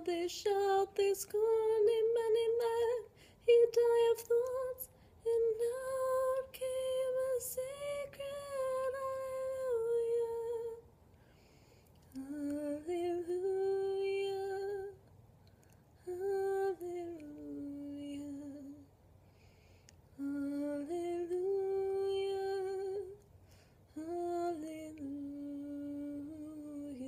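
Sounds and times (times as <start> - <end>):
woman singing wordless notes: 0.0 - 10.8, 12.2 - 15.0, 16.0 - 18.9, 20.2 - 23.2, 23.9 - 27.0.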